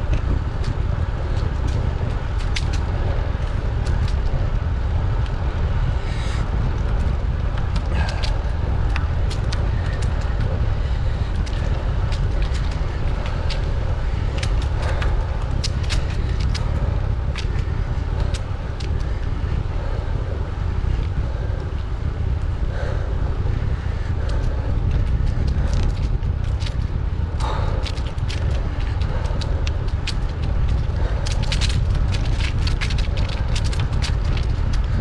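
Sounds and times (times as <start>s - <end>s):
sharp ticks and crackles: 0.0s - 35.0s
wind rumble on microphone: 0.0s - 35.0s.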